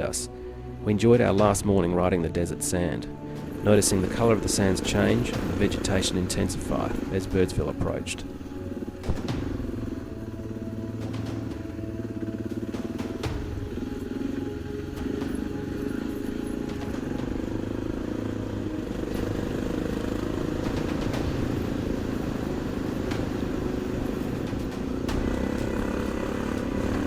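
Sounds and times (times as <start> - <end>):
motorcycle engine running: 3.1 - 27.0.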